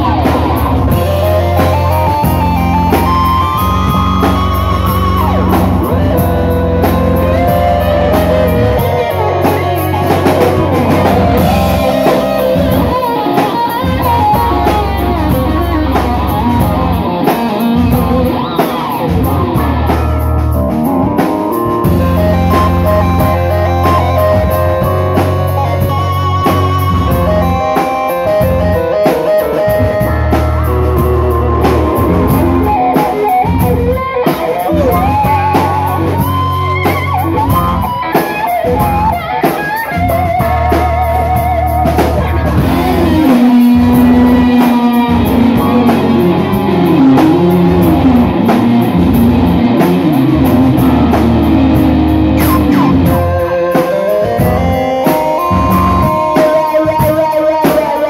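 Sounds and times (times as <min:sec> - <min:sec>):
electric guitar melody: 0:00.0 - 0:58.0
rock band playing live: 0:00.0 - 0:58.0.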